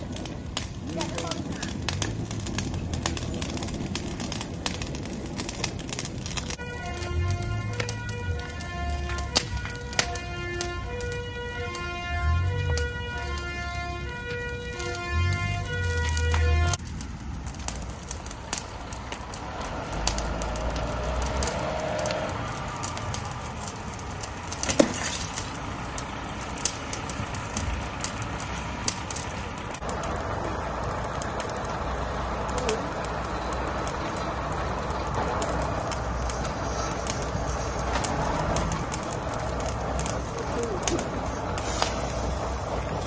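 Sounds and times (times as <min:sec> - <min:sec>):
burning car crackling and popping: 0:00.0 - 0:43.0.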